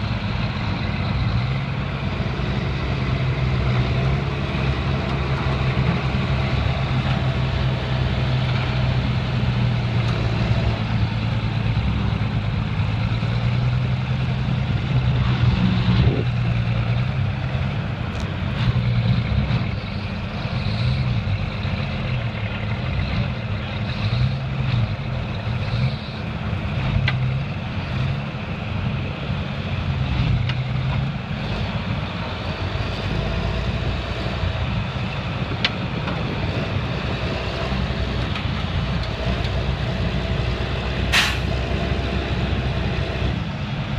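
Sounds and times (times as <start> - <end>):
vehicle engine humming: 0.0 - 43.9.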